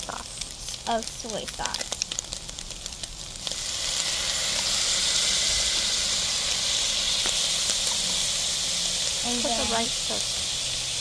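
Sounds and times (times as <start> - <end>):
sauce sizzling in a hot pan: 0.0 - 11.0.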